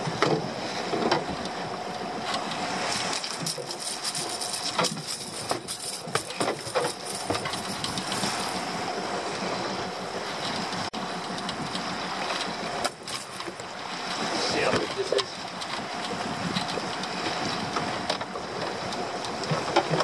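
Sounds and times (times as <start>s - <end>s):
knocks and rattles in boat hull: 0.0s - 1.4s, 3.1s - 8.5s, 10.4s - 20.0s
water noise: 0.0s - 20.0s
wind: 0.0s - 20.0s.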